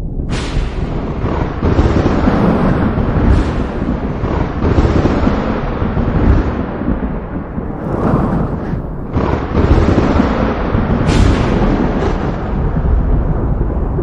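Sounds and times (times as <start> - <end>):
thunder rumbling: 0.0 - 14.0
wind noise: 0.0 - 14.0.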